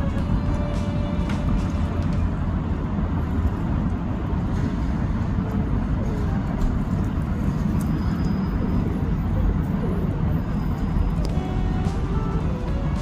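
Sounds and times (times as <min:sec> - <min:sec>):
city background rumble: 0:00.0 - 0:13.0.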